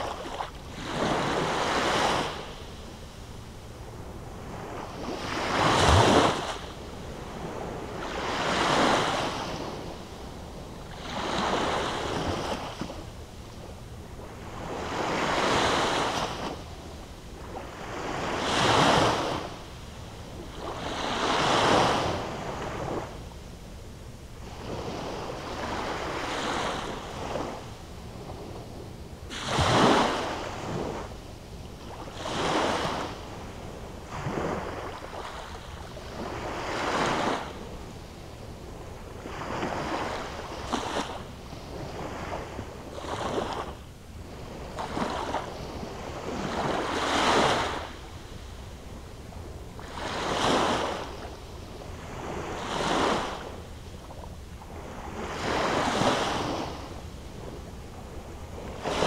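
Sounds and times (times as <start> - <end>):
waves washing up a beach: 0.0 - 13.4, 14.0 - 23.3, 24.3 - 59.0.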